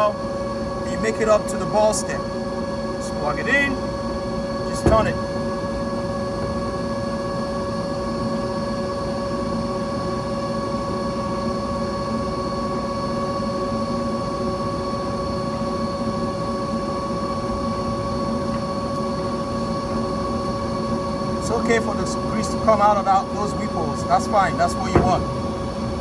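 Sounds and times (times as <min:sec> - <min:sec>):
machinery hum: 0:00.0 - 0:26.0
noisy machinery rumble: 0:00.0 - 0:26.0.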